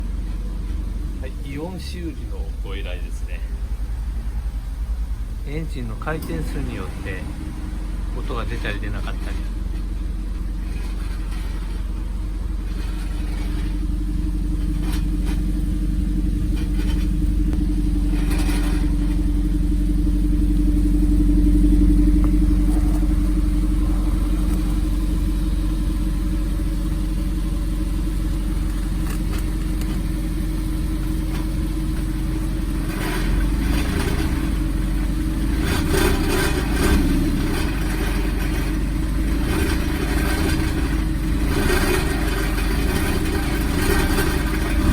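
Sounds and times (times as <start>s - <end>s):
car engine revving: 0.0s - 44.9s
muffler rattling: 0.0s - 44.9s.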